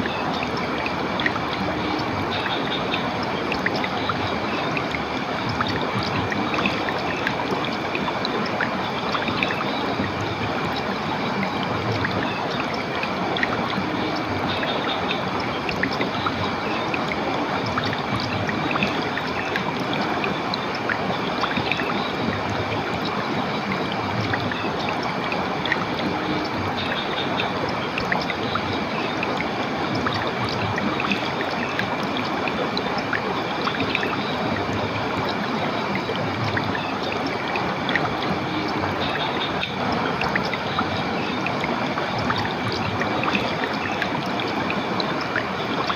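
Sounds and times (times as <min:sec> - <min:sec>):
stream water rushing and trickling: 0:00.0 - 0:45.9.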